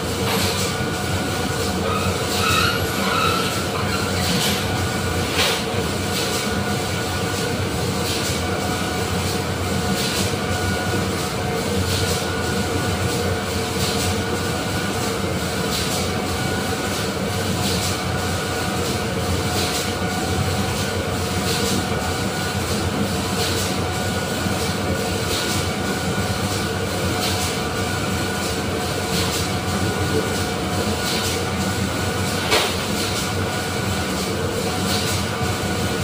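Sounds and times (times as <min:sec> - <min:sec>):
industrial machinery hum: 0:00.0 - 0:36.0.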